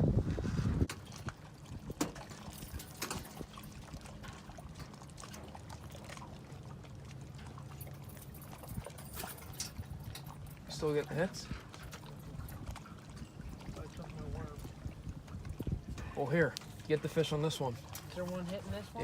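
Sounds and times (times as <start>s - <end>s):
water lapping around boat: 0.0s - 19.0s.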